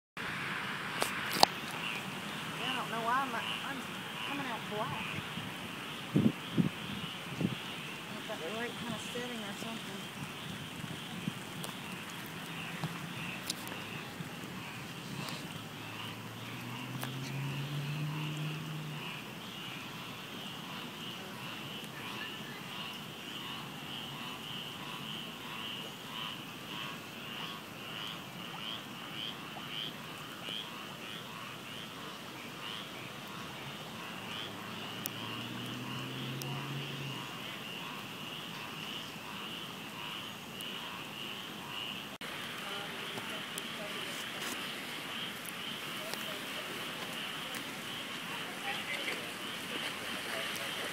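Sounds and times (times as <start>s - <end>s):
rain falling: 0.2s - 40.0s, 41.5s - 50.9s
frogs calling in chorus: 1.0s - 50.9s.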